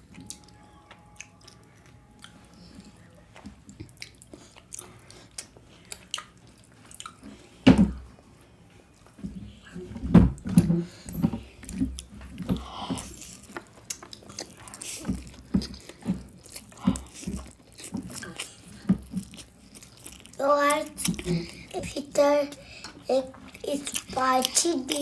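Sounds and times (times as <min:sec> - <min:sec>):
chewing and biting: 0:00.1 - 0:07.5, 0:11.6 - 0:22.0, 0:22.6 - 0:25.0.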